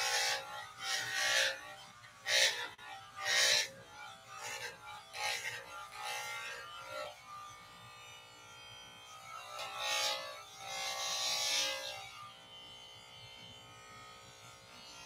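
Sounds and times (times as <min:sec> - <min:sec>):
clippers rasping through hair: 0:00.0 - 0:15.0
electric hair clippers buzzing: 0:00.0 - 0:15.0.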